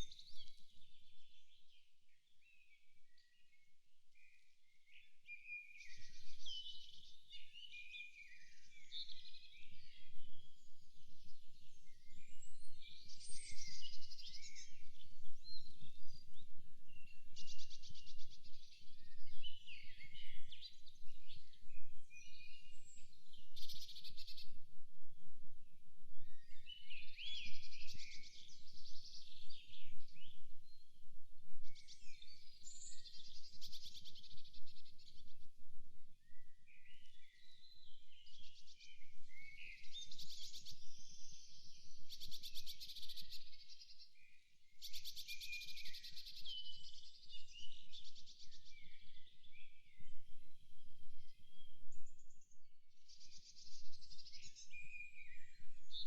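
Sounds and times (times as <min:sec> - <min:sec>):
songbirds singing: 0:00.0 - 0:35.6, 0:36.2 - 0:56.0.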